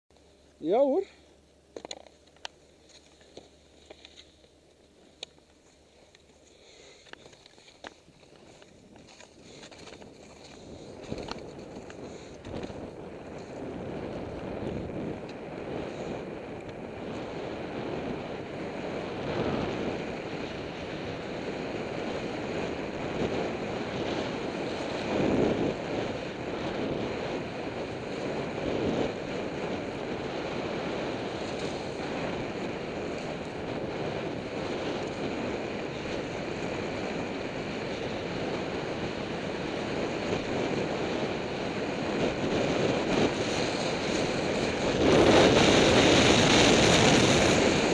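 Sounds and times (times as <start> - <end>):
skis carving hard snow: 5.6 - 47.9
wind on camera microphone: 7.9 - 47.9.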